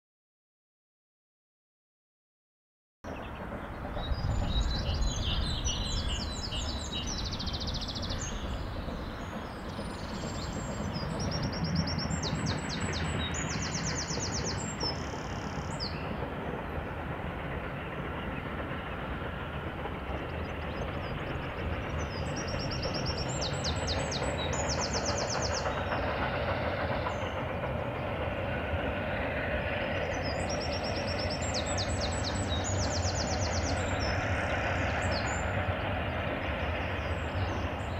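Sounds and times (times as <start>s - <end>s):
steam train rumbling: 3.1s - 37.9s
small birds trilling: 3.2s - 37.9s.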